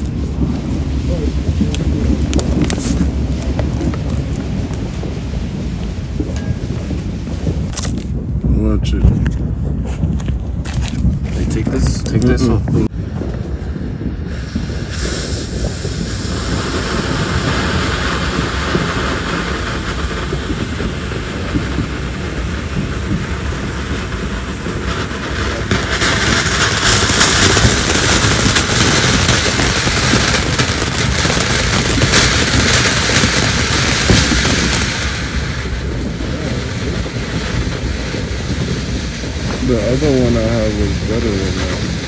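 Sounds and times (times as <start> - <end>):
firework hissing and crackling: 0.0 - 8.4, 9.4 - 42.0.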